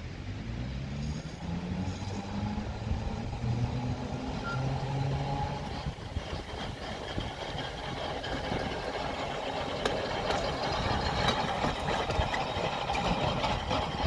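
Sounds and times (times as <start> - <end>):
streetcar motors humming: 0.0 - 14.0
wheels rumbling on rails: 0.0 - 14.0.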